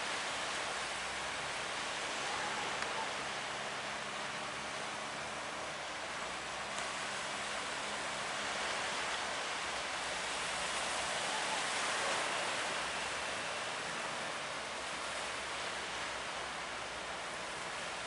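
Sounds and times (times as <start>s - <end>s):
sea water rushing against boat: 0.0s - 18.0s.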